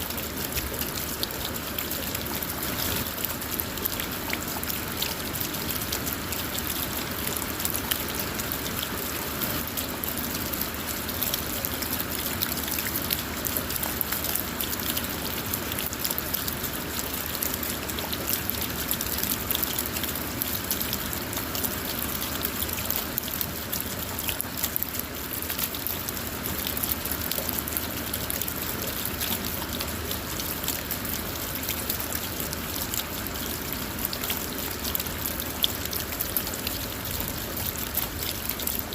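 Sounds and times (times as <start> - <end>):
rain on a car: 0.0 - 38.9.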